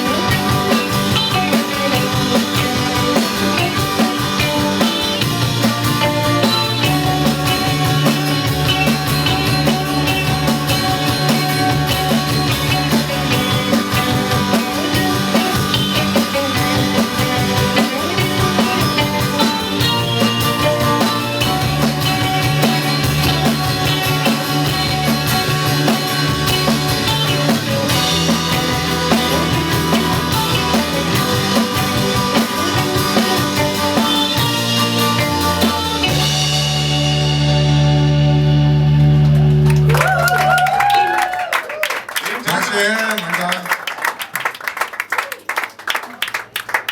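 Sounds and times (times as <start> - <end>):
drum kit beat: 0.0 - 41.4
guitar: 0.0 - 41.5.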